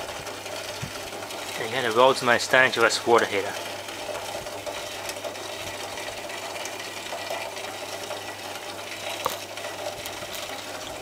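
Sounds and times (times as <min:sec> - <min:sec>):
electrical hum and buzz: 0:00.0 - 0:11.0
faint electrical crackles: 0:00.0 - 0:11.0.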